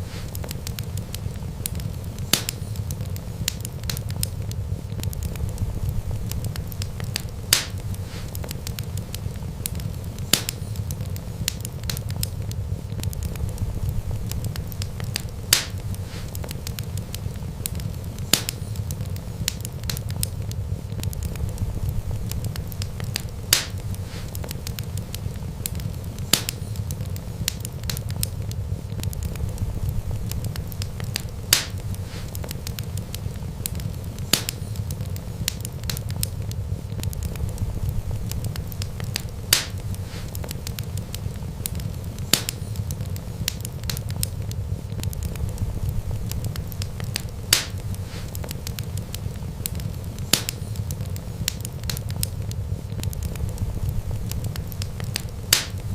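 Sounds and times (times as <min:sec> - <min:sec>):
fire flames rumbling: 0:00.0 - 0:55.9
wood fire pops: 0:00.0 - 0:55.9.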